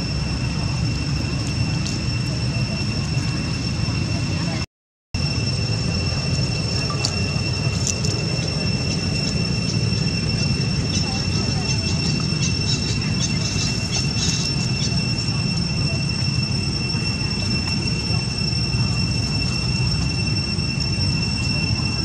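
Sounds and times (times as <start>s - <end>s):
high-pitched whine: 0.0s - 22.0s
low rumble: 0.0s - 22.0s.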